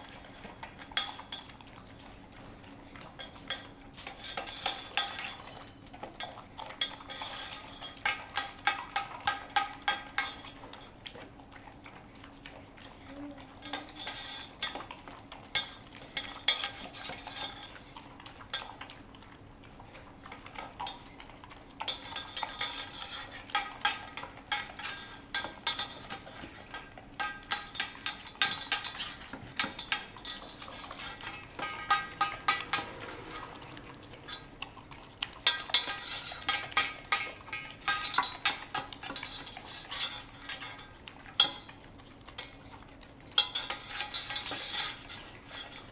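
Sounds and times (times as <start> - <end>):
kibble rattling in bowl: 0.0 - 12.0, 12.6 - 41.8.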